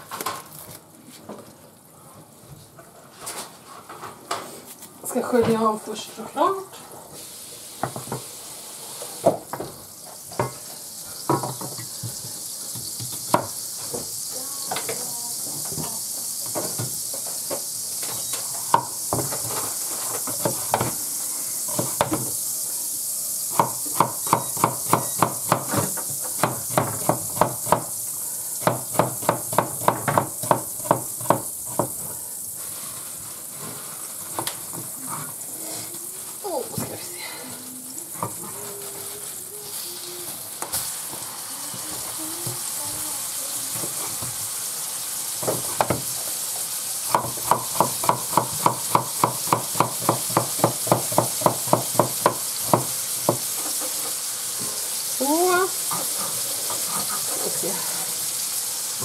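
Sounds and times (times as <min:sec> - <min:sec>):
meat sizzling in a frying pan: 0:05.1 - 0:59.0.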